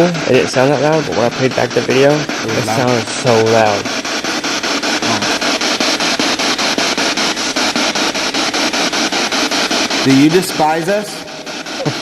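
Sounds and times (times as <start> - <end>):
chopped radio static: 0.0 - 12.0.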